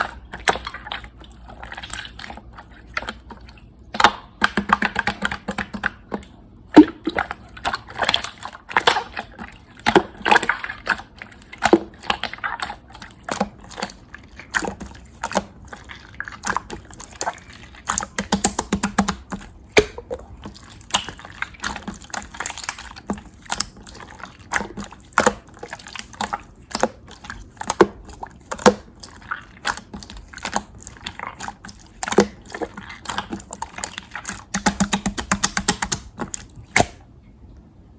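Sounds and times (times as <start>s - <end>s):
slime squelching and popping: 0.0s - 37.0s.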